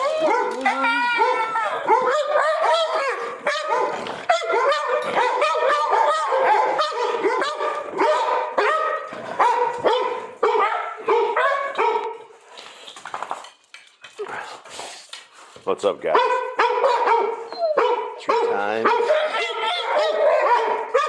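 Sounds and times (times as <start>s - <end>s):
dogs whining and howling: 0.0s - 12.1s, 16.2s - 21.0s
dogs yipping and barking: 0.0s - 12.4s, 16.1s - 21.0s.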